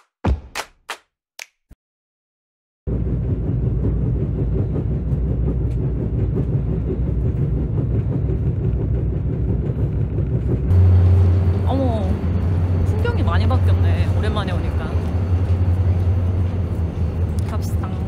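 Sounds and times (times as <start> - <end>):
train carriage rumble: 2.9 - 18.0.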